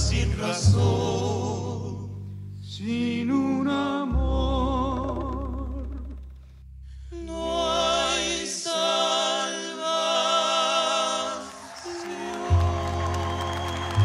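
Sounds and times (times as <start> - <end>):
male vocal trio singing: 0.0 - 6.0, 7.1 - 14.0.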